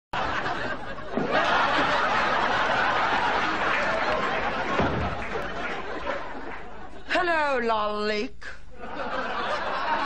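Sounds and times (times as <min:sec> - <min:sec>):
studio audience laughing: 0:00.2 - 0:07.2, 0:08.7 - 0:10.0.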